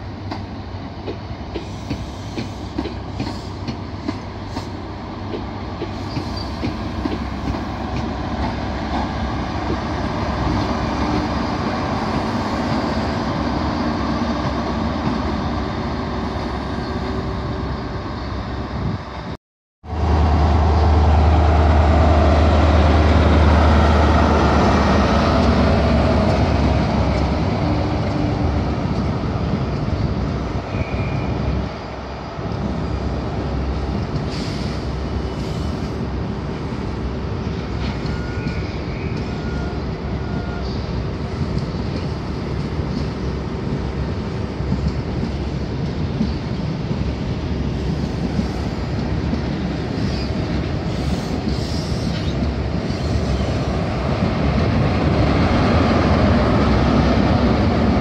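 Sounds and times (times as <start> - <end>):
train wheels on rails: 0.0 - 17.7, 20.0 - 58.0.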